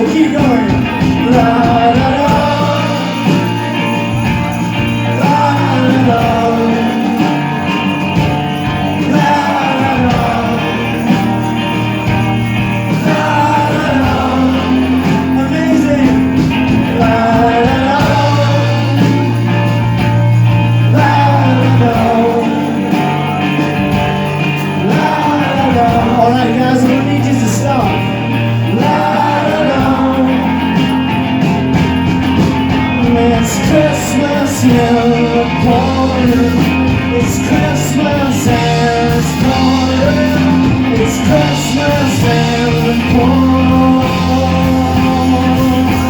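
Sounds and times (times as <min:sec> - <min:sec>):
held bass notes: 0:00.0 - 0:46.0
live rock band playing: 0:00.0 - 0:46.0
voices singing la la la: 0:00.0 - 0:46.0.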